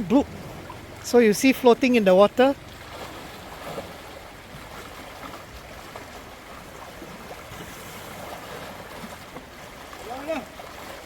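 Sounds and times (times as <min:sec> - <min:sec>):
shallow river flowing: 0:00.0 - 0:11.0
small water splashes: 0:00.0 - 0:11.0.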